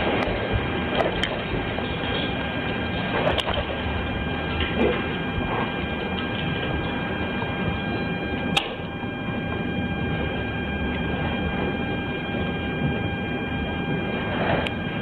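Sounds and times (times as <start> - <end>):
hiss and electrical hum: 0.0 - 15.0
thin high whine: 0.0 - 15.0.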